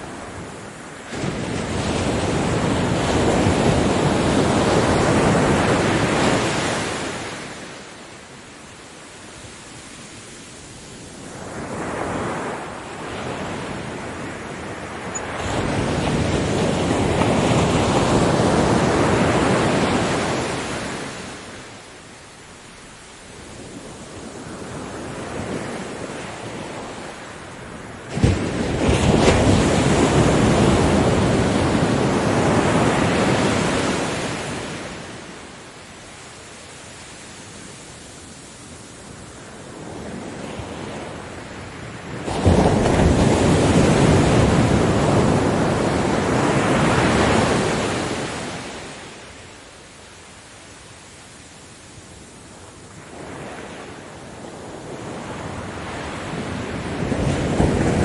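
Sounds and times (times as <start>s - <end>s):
ocean waves crashing: 0.0s - 58.0s
surf hiss: 0.0s - 58.0s.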